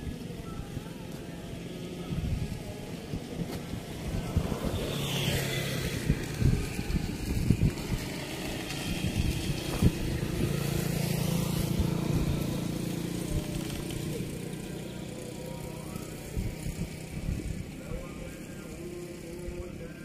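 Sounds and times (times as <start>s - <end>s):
vehicle engine passing by: 1.0s - 20.0s.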